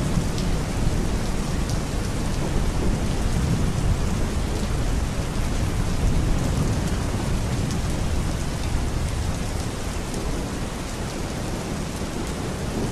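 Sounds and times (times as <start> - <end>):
steady rain: 0.0 - 12.9.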